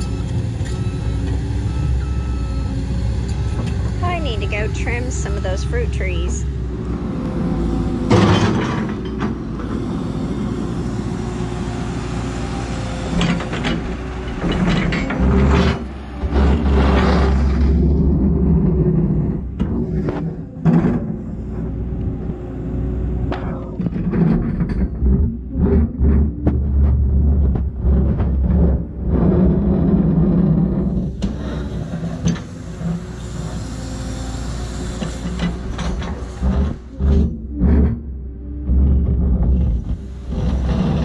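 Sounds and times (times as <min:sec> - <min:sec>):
excavator engine and hydraulics: 0:00.0 - 0:41.0.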